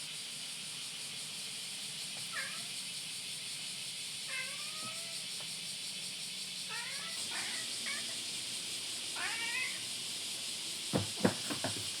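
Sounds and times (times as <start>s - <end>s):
steady high hiss: 0.0s - 11.3s.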